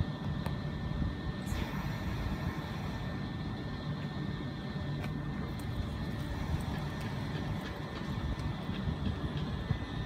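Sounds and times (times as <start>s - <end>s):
faint high whine: 0.0s - 8.7s
train equipment low hum: 0.0s - 10.0s.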